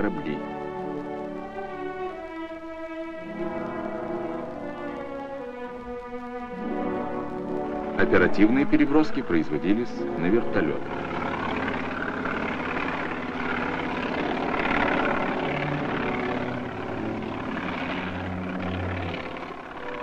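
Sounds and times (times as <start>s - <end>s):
helicopter rotor and engine: 0.0s - 20.0s.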